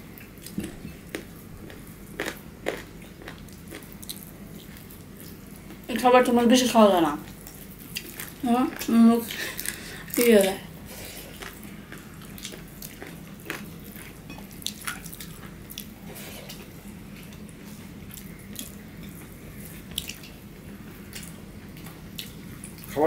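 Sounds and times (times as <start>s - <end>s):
steady low hum: 0.0s - 23.0s
mouths chewing: 0.4s - 5.8s, 7.3s - 22.9s.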